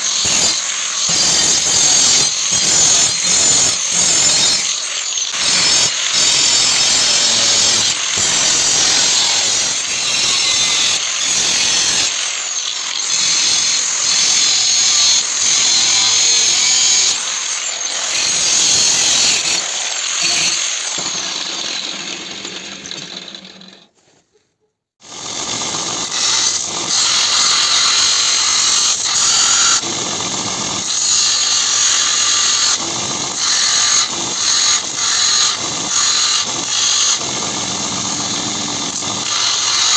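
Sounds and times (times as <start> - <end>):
power tools cutting steel: 0.0 - 24.0, 25.0 - 39.9.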